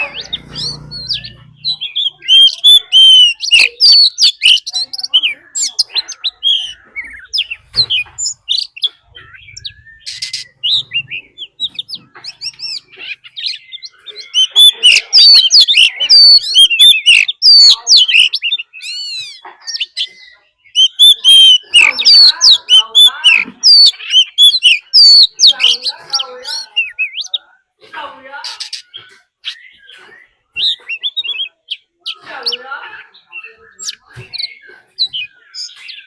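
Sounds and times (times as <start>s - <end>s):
bird singing whistles and chirps: 0.0s - 27.4s, 28.5s - 36.0s.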